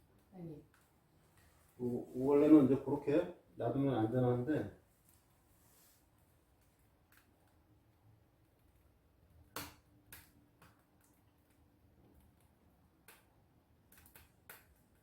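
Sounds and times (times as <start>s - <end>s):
wood fire crackling and popping: 0.0s - 3.4s, 4.0s - 15.0s.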